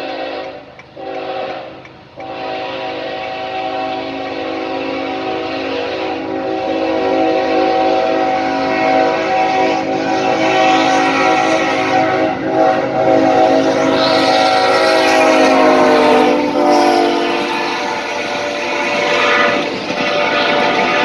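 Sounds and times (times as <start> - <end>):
locomotive air horn: 0.0 - 21.0
train rolling past: 0.0 - 21.0.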